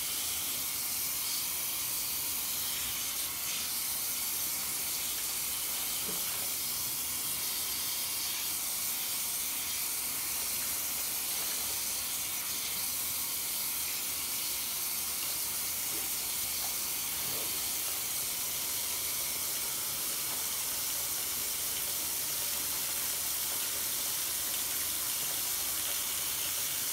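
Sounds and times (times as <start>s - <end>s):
tap water running into sink: 0.0s - 26.9s.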